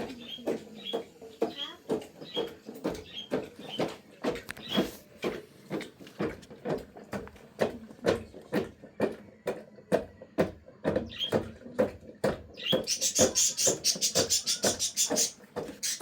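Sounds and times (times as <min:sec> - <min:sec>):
repeated knocks: 0:00.0 - 0:16.0.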